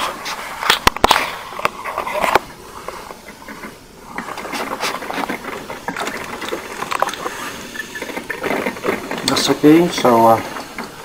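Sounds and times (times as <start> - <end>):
coffee maker sputtering and gurgling: 0.0 - 11.0.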